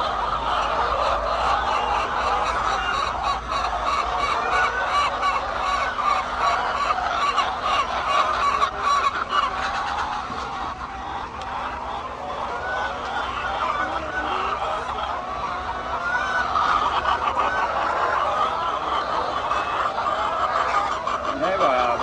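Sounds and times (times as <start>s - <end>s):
flock of hens clucking: 0.0s - 22.0s.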